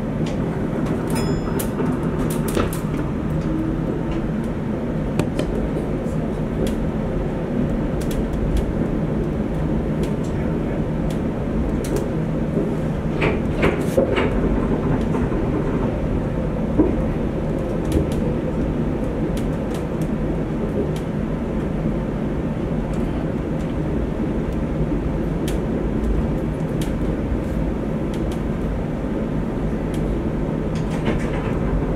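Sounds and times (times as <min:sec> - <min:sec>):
train running rumble: 0:00.0 - 0:31.9.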